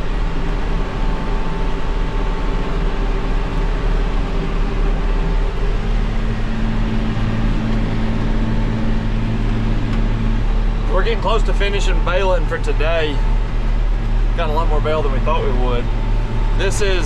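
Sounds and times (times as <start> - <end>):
deep steady hum: 0.0 - 17.0
tractor engine running: 0.0 - 17.0.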